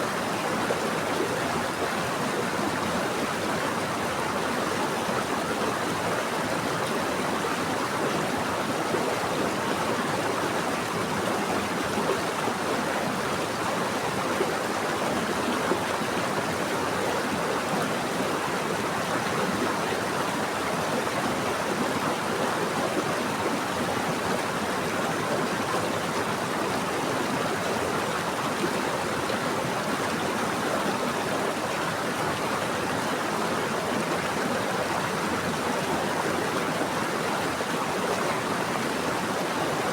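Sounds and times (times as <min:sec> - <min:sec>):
stream flowing over rocks: 0:00.1 - 0:39.9.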